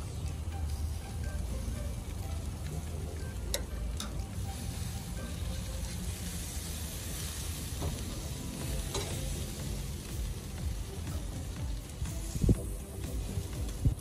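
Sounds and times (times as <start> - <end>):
food sizzling on a grill: 0.0 - 14.0
steady low rumble: 0.0 - 14.0.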